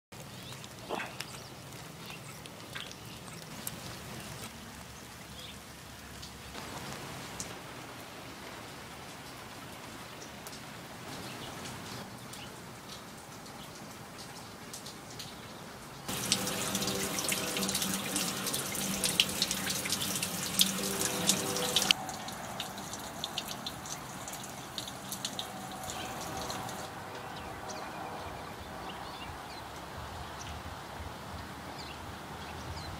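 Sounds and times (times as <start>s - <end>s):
rain pattering on pavement: 0.1s - 31.8s.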